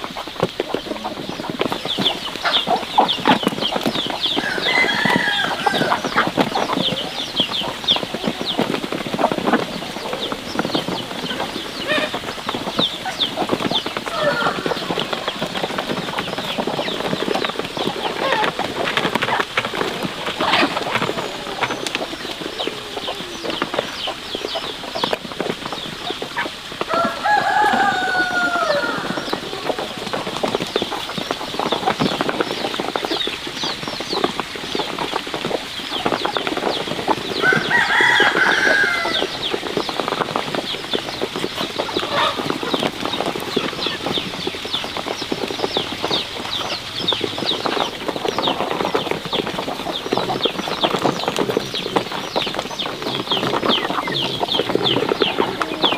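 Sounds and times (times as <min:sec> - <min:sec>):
chickens peeping: 0:00.0 - 0:55.9
drawn-out chicken calls: 0:00.0 - 0:55.9.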